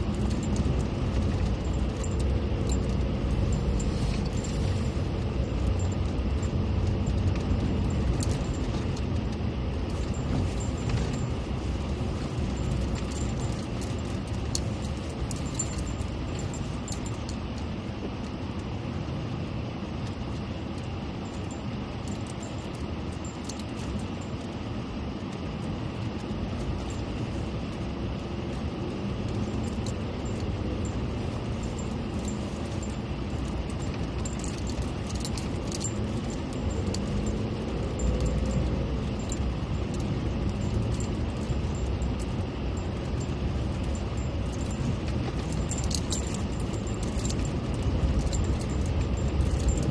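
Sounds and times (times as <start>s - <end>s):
light rattles and clicks: 0.0s - 18.8s, 19.9s - 49.9s
vehicle engine and road noise: 0.0s - 49.9s.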